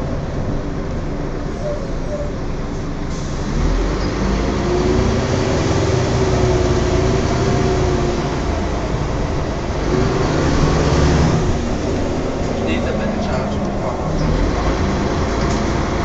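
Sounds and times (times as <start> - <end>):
bus differential whining: 0.0 - 16.0
engine and road rumble: 0.0 - 16.0.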